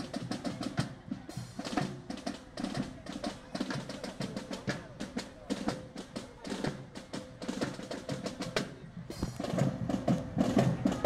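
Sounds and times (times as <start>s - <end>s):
snare drum taps and rolls: 1.6s - 11.0s.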